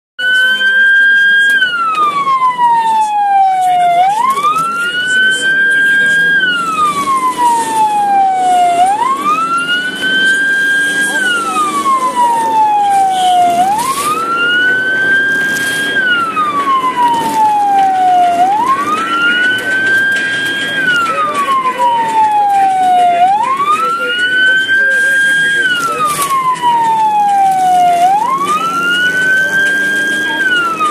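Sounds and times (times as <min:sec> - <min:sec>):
ambulance siren wailing: 0:00.2 - 0:30.9.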